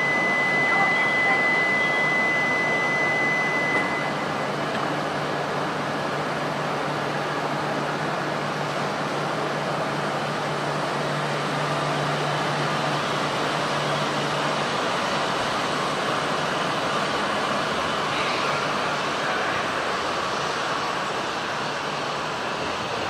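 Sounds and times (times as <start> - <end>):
train rushing hum: 0.0 - 23.0.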